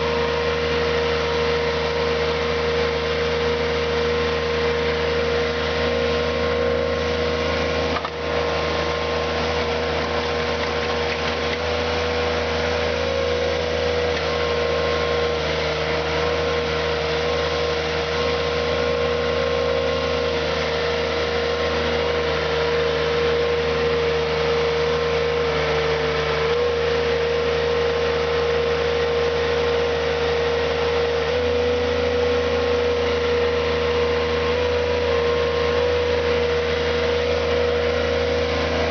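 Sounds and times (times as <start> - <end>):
loader engine running: 0.0 - 38.9.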